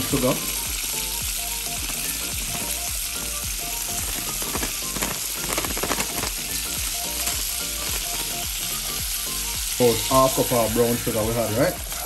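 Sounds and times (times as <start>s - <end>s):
background music with steady beat: 0.0s - 12.0s
butter sizzling in a saucepan: 0.0s - 12.0s.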